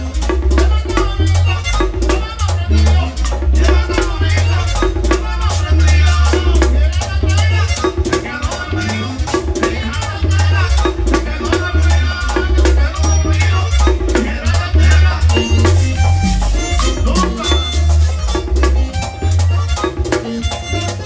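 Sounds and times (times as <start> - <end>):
accordion melody: 0.0 - 21.0
electric bass line: 0.0 - 21.0
scraper rhythm: 0.0 - 21.0.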